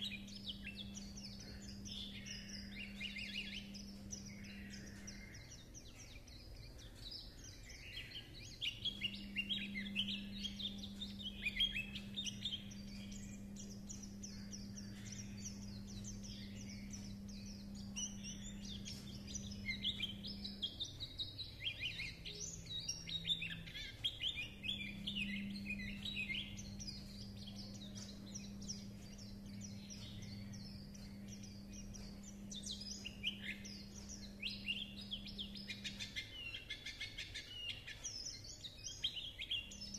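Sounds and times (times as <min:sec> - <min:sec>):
bird twittering song: 0:00.0 - 0:39.9
steady low hum: 0:00.0 - 0:39.9.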